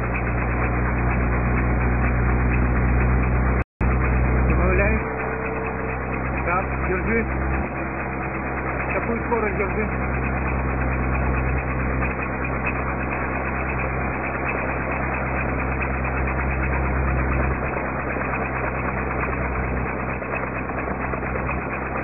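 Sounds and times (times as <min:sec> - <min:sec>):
car engine under load: 0:00.0 - 0:22.0.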